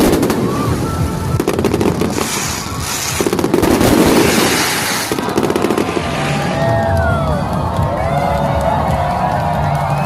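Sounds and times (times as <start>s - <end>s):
fireworks crackling and banging: 0.0s - 9.8s.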